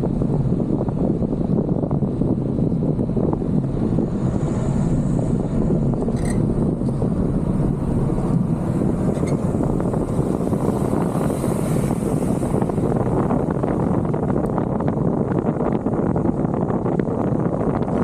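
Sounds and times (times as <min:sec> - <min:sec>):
tyre noise on dirt road: 0:00.0 - 0:18.0
wind buffeting microphone: 0:00.0 - 0:18.0.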